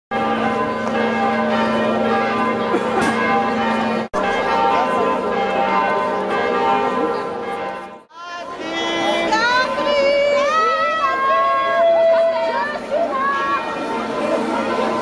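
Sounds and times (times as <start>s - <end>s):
church bells pealing: 0.1s - 11.4s, 12.1s - 15.0s.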